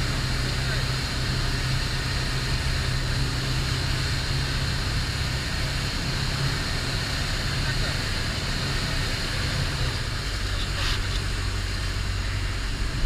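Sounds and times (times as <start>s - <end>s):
aircraft engine and propeller drone: 0.0s - 13.0s
broad rushing noise: 0.0s - 13.0s.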